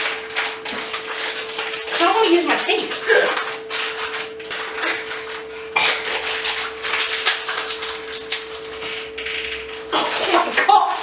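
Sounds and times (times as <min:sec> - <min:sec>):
plastic packet crinkling: 0:00.0 - 0:11.0
steady hum: 0:00.0 - 0:11.0.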